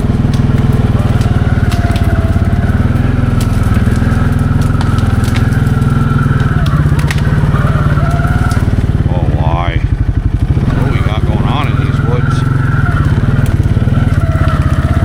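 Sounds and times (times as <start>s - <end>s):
atv engine running at low revs: 0.0s - 15.0s
sharp cracks and ticks: 0.0s - 15.0s.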